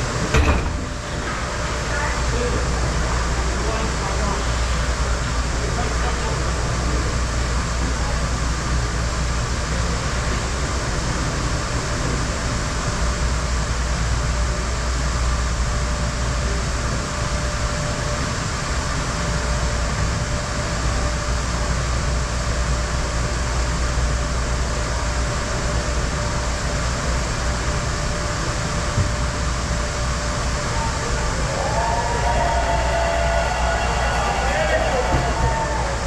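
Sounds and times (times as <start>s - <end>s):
steady rumbling noise: 0.0s - 36.0s.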